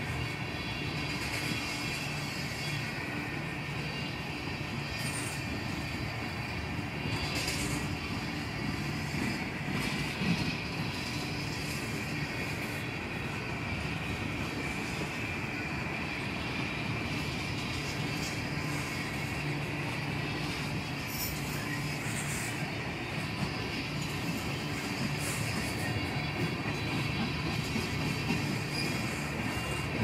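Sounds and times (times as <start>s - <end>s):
steel wheels on rail: 0.0s - 30.0s.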